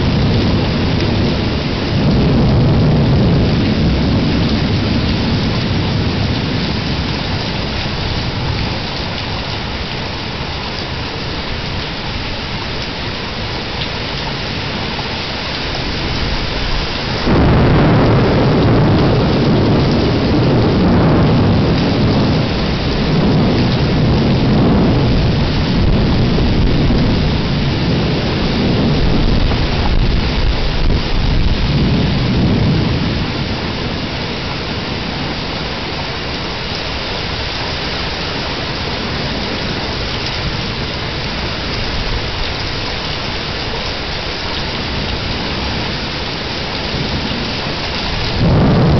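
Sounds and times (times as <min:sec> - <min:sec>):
steady rain: 0:00.0 - 0:48.9
thunder rumbling: 0:00.0 - 0:48.9.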